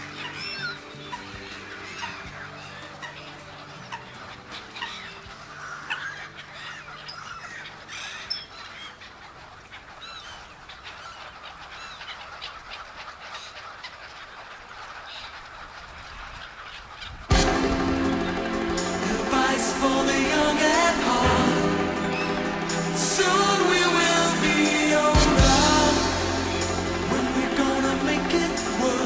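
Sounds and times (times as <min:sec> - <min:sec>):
faint music: 0:00.0 - 0:13.7, 0:17.3 - 0:29.0
waterbirds squawking and honking: 0:00.0 - 0:29.0.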